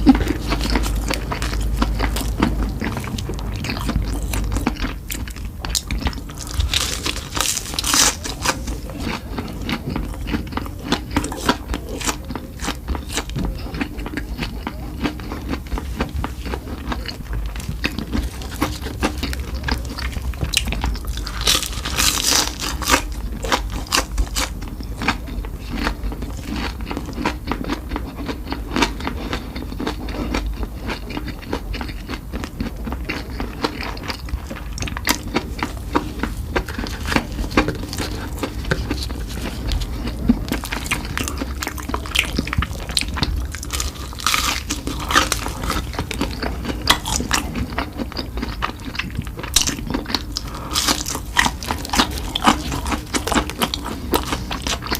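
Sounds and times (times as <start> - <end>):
person chewing and crunching: 0.0 - 54.9
steady low hum: 0.0 - 54.9.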